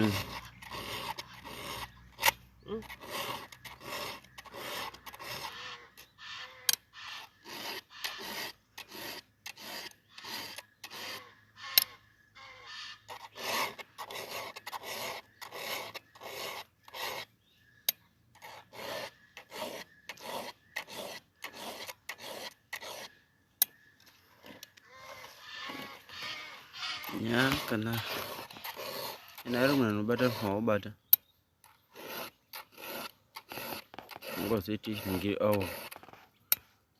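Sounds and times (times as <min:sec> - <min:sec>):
hand tool rasping: 0:00.0 - 0:12.0, 0:12.8 - 0:36.8.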